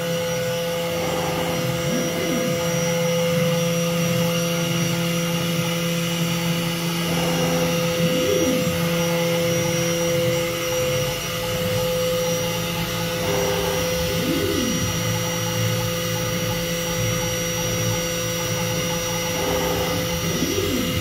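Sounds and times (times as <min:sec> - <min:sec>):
cnc router humming: 0:00.0 - 0:21.0
drive motors whining in pitch: 0:00.0 - 0:21.0.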